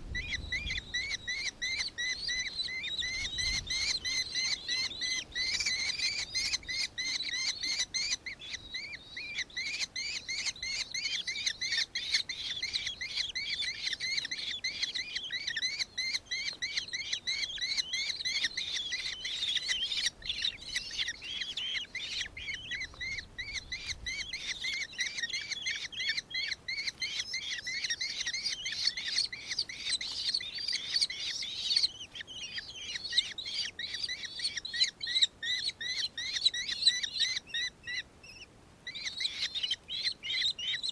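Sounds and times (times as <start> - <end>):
birds chirping in chorus: 0.0 - 40.9.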